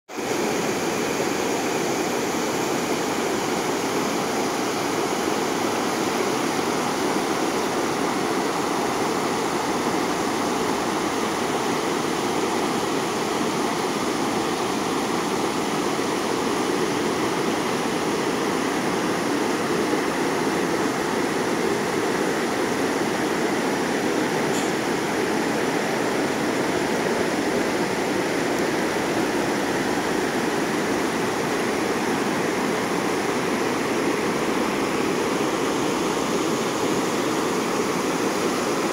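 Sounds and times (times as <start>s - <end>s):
river rushing over rocks: 0.1s - 38.9s.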